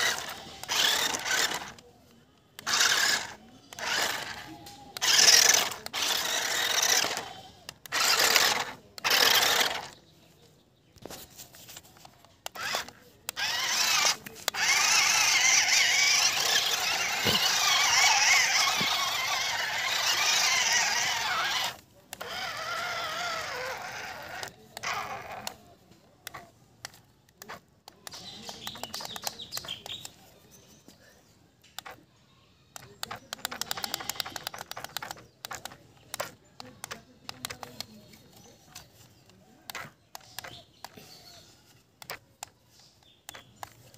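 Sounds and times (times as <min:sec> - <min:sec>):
wheels churning through mud: 0:00.0 - 0:01.8, 0:02.5 - 0:10.1, 0:11.0 - 0:30.1, 0:32.8 - 0:43.9
toy car electric motors whining: 0:00.0 - 0:10.1, 0:11.0 - 0:43.9.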